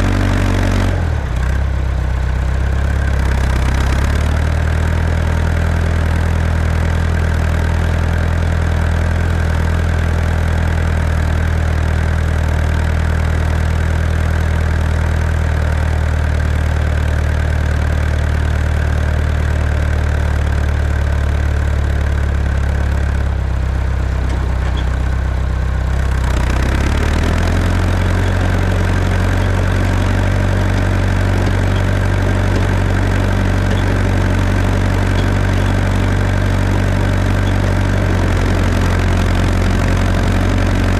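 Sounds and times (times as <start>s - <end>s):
tractor engine plowing snow: 0.0s - 40.9s.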